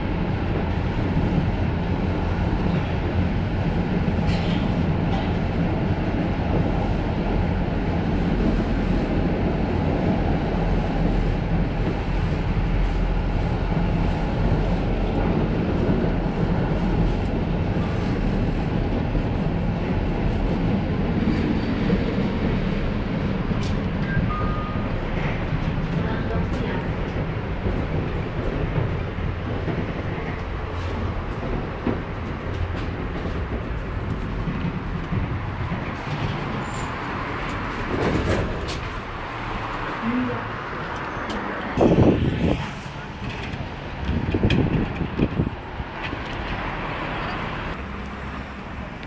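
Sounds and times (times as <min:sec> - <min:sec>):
tram wheels rumbling on rails: 0:00.0 - 0:49.0.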